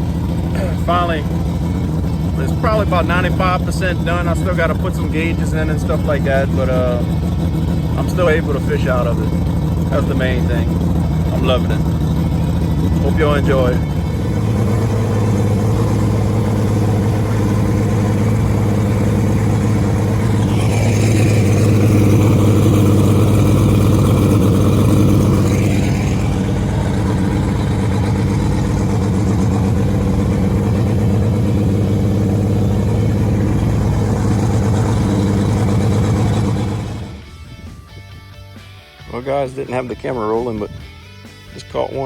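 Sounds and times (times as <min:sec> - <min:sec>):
outboard motor running: 0:00.0 - 0:37.8.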